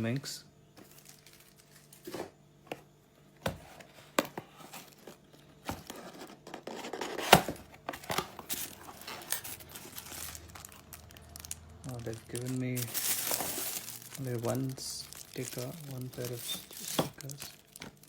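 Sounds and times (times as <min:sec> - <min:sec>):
packaging rustling and crinkling: 0:00.8 - 0:02.4, 0:03.5 - 0:18.0.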